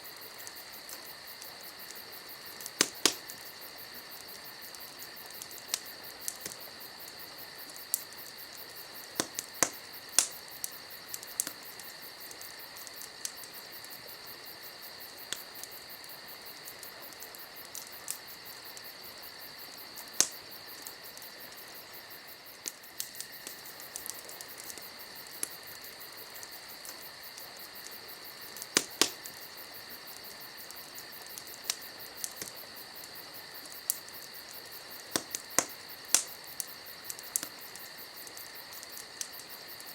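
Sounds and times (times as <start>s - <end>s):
campfire crackling and popping: 0.0s - 39.9s
crickets chirring: 0.0s - 39.9s.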